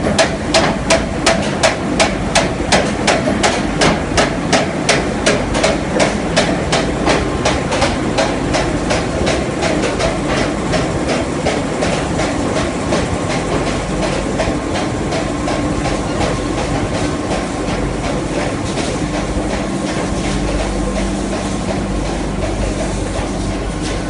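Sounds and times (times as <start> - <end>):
continuous machine noise: 0.0 - 24.0
machine clattering strikes: 0.0 - 24.0.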